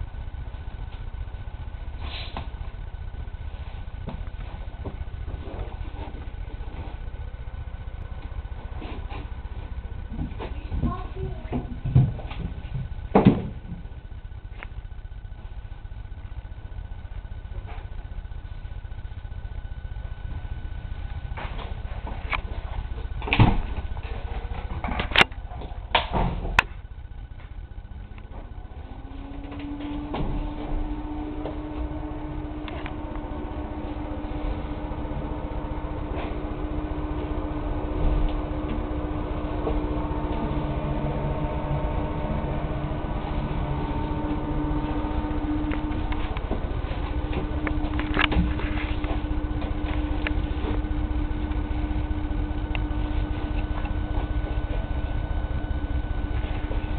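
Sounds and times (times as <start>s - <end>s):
faint constant tone: 0.0s - 56.9s
low handling rumble: 0.0s - 56.9s
steady hum and hiss: 0.0s - 56.9s.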